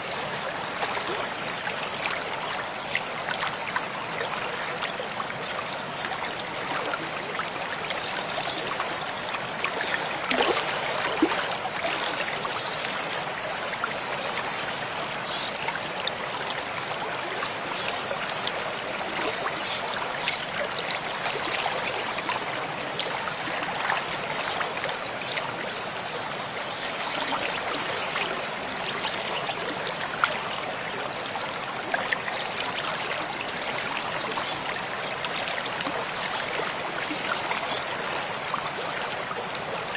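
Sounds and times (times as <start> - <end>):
small water splashes: 0.0 - 39.9
stream rushing and trickling: 0.0 - 39.9.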